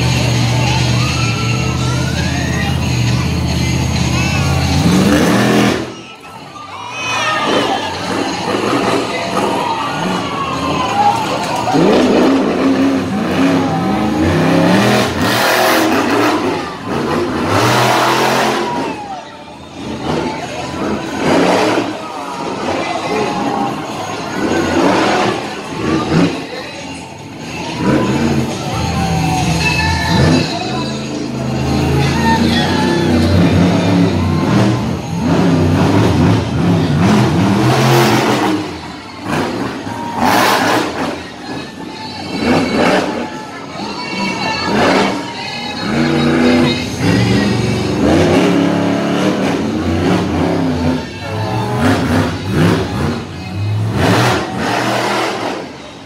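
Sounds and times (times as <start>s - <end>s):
truck engine revving hard: 0.0s - 6.2s, 7.0s - 56.0s.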